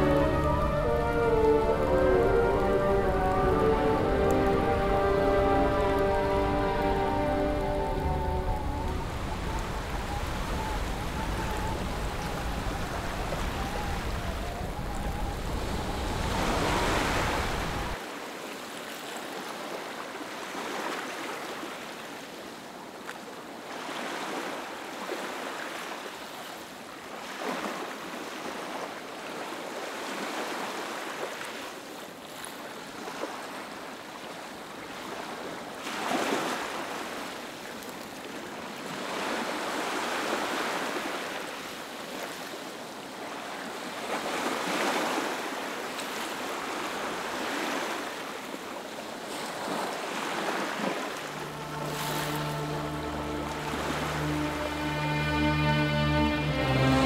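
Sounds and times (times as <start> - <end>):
small waves lapping on beach: 1.0 - 55.3.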